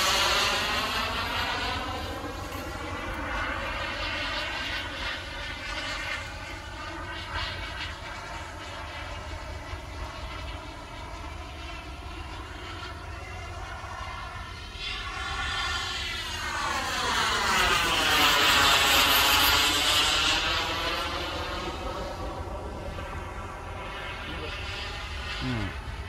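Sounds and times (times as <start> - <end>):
model jet turbine whine: 0.0 - 26.0.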